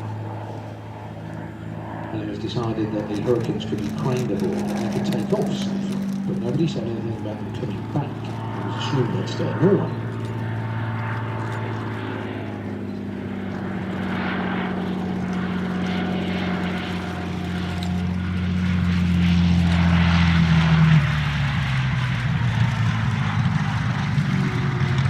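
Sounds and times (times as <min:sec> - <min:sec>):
propeller plane engine passing by: 0:00.0 - 0:25.0.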